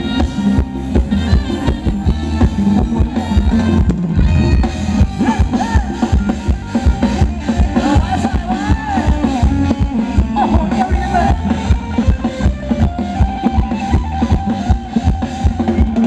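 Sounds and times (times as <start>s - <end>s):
drum kit beat: 0.0s - 16.0s
heavy bass: 0.0s - 16.0s
live dance band playing: 0.0s - 16.0s.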